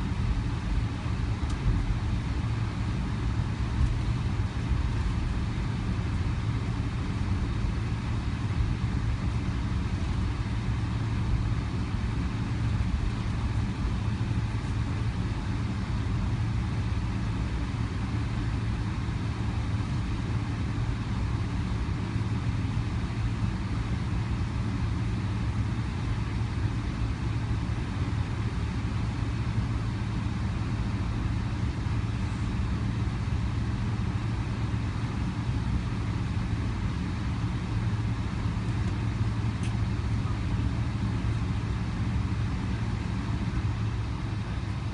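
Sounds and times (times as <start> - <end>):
jet engines humming: 0.0 - 44.9.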